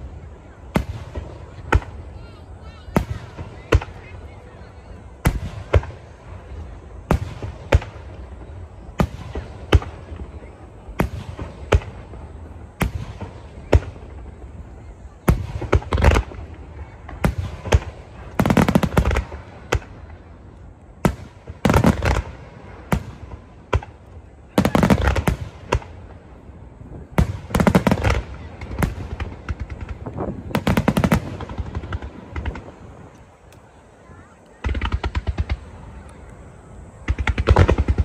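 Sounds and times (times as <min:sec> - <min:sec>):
rapid crackling fireworks bangs: 0:00.0 - 0:36.1, 0:36.9 - 0:38.0
fireworks bangs: 0:00.0 - 0:38.0.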